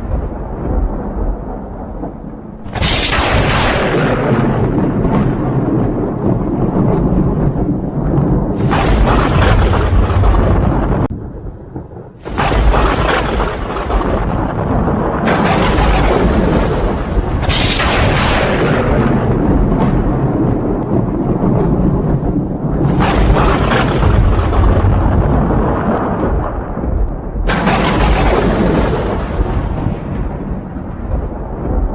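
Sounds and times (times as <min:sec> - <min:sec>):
thunder cracks and rumble: 0:00.0 - 0:31.9.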